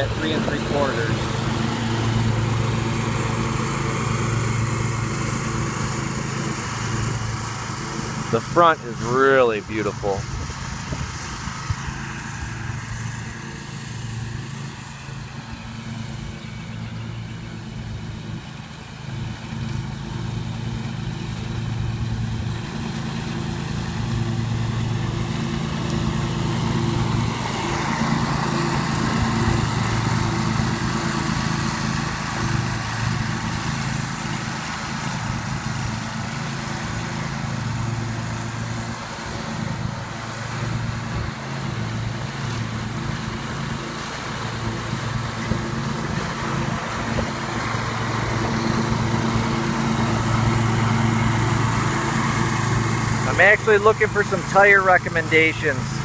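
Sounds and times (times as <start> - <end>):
mower engine running: 0.0 - 56.0.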